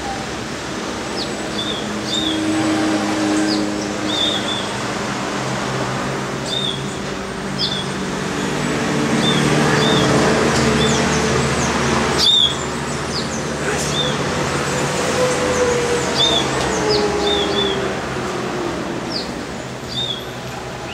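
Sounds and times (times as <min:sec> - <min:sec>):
city traffic noise: 0:00.0 - 0:20.9.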